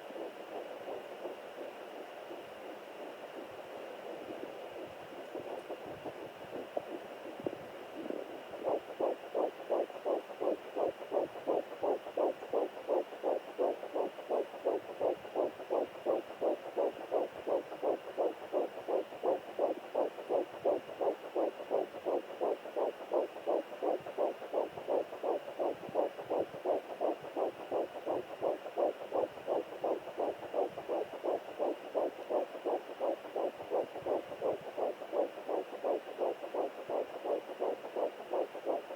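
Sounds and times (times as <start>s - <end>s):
fast whooshing heartbeat pulse: 0.0s - 38.9s.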